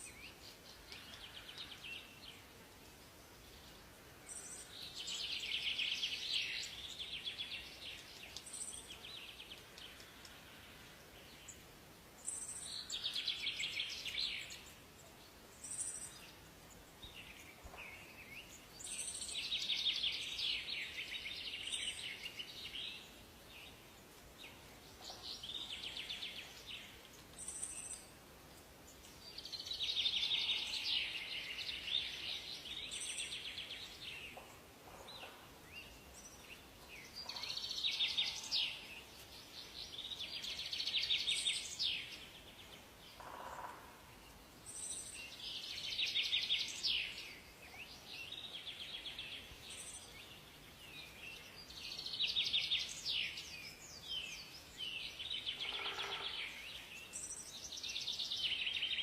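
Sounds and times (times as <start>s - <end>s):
soft background hiss: 0.0s - 59.0s
songbirds trilling: 3.4s - 59.0s.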